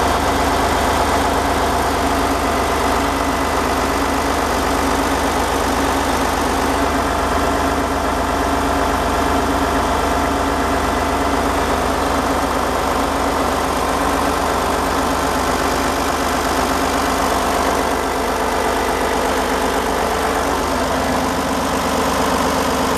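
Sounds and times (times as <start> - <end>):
diesel engine drone: 0.0 - 22.9.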